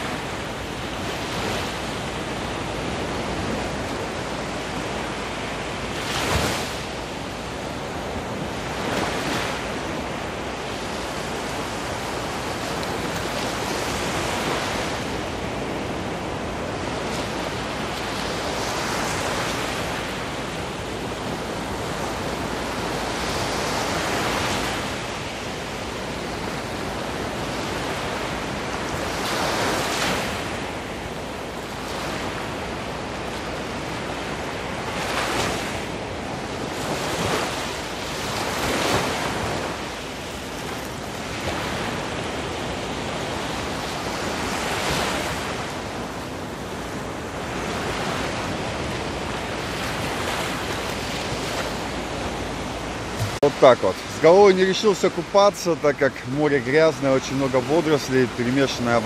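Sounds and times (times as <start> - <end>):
small waves breaking on sand: 0.0 - 59.0
steady rush of sea: 0.0 - 59.0.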